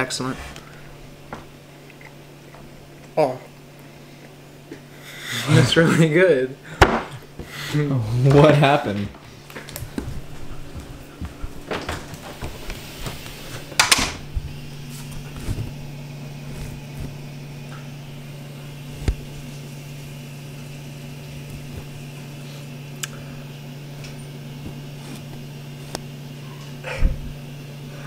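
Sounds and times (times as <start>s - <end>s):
kitchen appliance humming: 0.0s - 28.0s.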